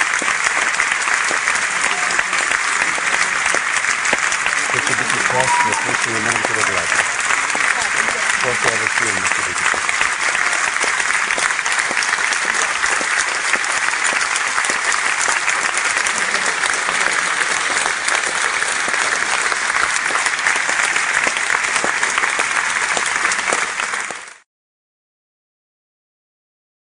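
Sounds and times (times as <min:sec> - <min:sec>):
audience applauding: 0:00.0 - 0:24.4.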